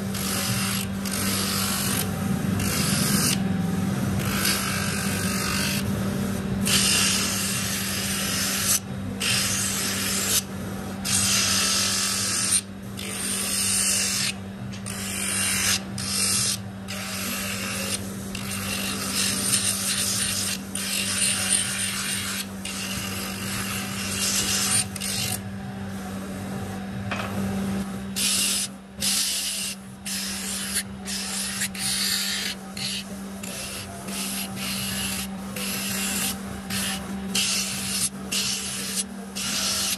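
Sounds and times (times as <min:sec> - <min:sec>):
rasp of wood being sanded: 0:00.0 - 0:02.1, 0:04.1 - 0:05.8, 0:06.6 - 0:10.5, 0:11.1 - 0:25.4, 0:28.2 - 0:39.9
electric motor humming: 0:00.0 - 0:39.9.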